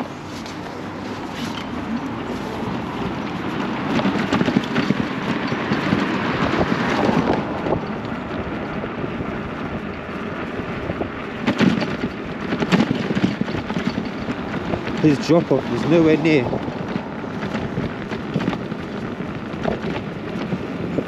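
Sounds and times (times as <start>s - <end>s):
bike road noise: 0.0s - 21.0s
small knocks and rattles: 0.3s - 8.8s, 11.4s - 21.0s
wind on microphone: 0.8s - 21.0s.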